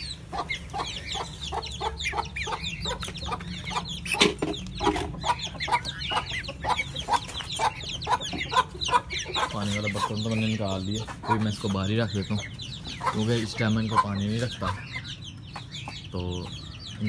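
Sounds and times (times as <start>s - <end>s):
chicks peeping: 0.0s - 17.0s
hen clucking: 0.0s - 17.0s.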